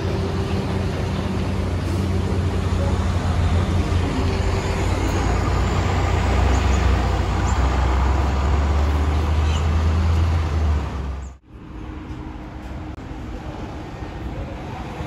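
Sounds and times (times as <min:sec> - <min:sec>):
large vehicle engine rumbling: 0:00.0 - 0:15.0
road noise: 0:00.0 - 0:15.0.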